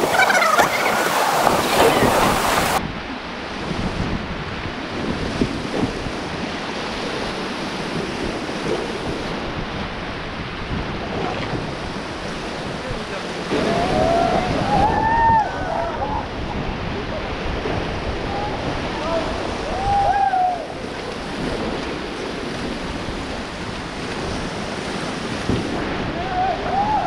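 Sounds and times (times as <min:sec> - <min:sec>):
whitewater rushing and splashing: 0:00.0 - 0:27.0
wind buffeting microphone: 0:00.0 - 0:27.0.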